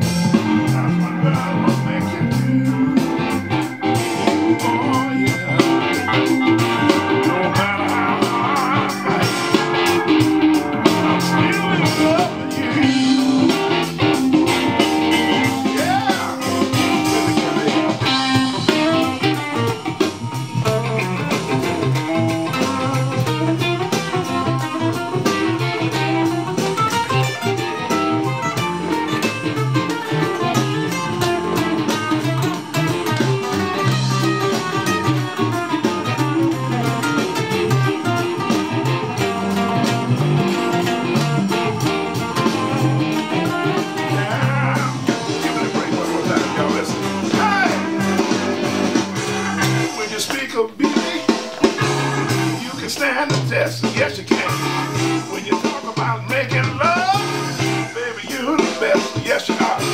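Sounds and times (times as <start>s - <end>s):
blues band instrumental: 0.0s - 59.9s
electric guitars: 0.0s - 59.9s.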